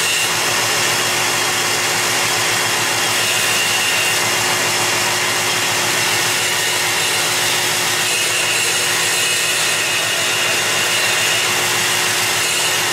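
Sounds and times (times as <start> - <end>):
belt grinder grinding steel: 0.0 - 12.9.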